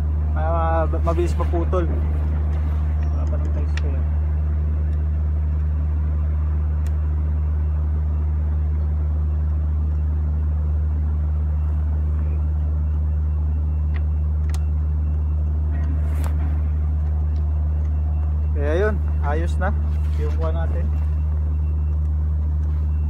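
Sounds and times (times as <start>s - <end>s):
low machinery hum: 0.0s - 23.0s.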